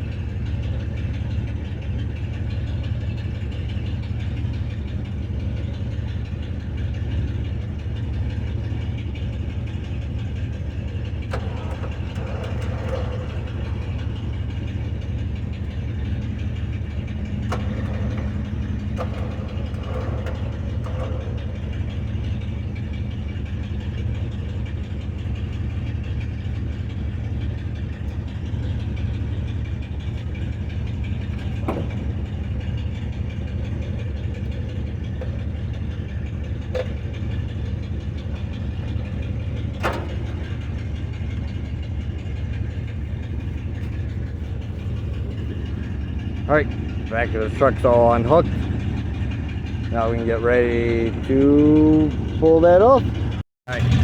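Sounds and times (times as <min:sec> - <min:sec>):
clanks and knocks of work: 0:00.0 - 0:54.0
vehicle engine idling: 0:00.0 - 0:54.0.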